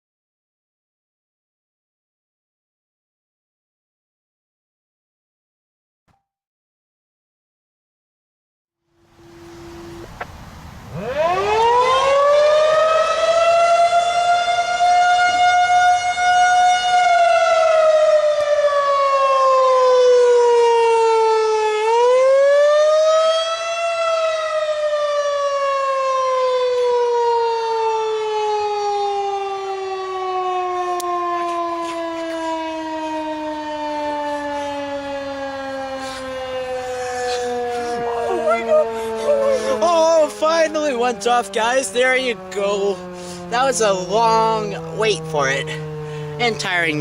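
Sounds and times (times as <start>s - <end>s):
warning siren wailing: 8.8s - 47.0s.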